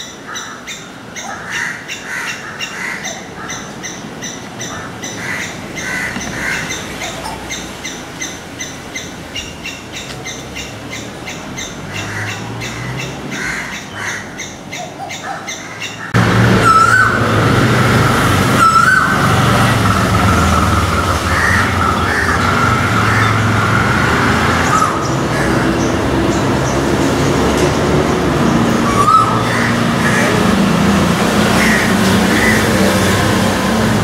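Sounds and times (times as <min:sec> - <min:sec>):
koel rising calls: 0:00.0 - 0:34.0
road traffic rumble: 0:00.0 - 0:34.0.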